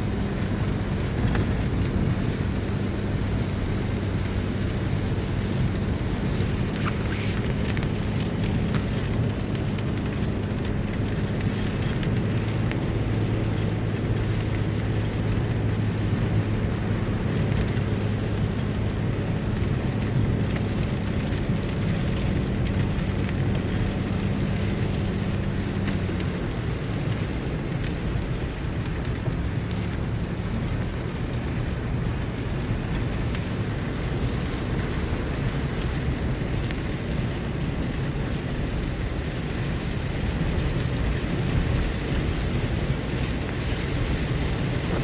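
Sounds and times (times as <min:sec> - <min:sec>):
car engine drone: 0:00.0 - 0:45.0
tyres hissing on wet road: 0:00.0 - 0:45.0.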